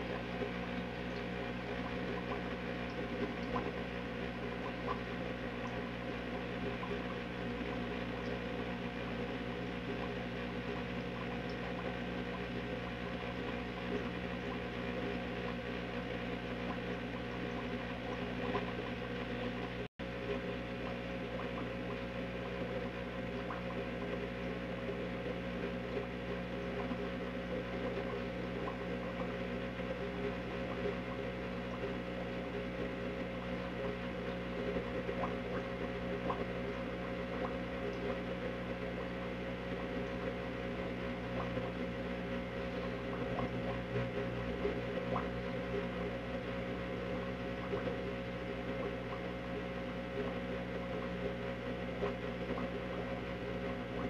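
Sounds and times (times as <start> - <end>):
background hum with hiss: 0.0 - 54.0.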